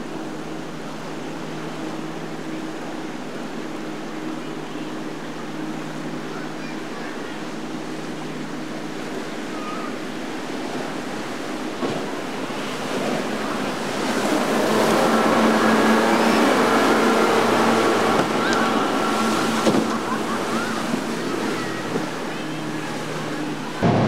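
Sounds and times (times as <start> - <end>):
boat engine running: 0.0 - 24.0
churning rushing water: 0.0 - 24.0.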